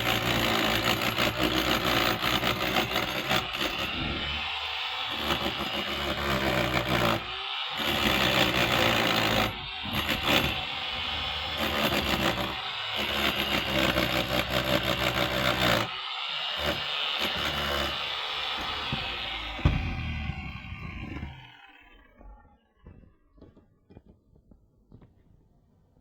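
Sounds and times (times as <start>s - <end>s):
motor running: 0.1s - 22.5s.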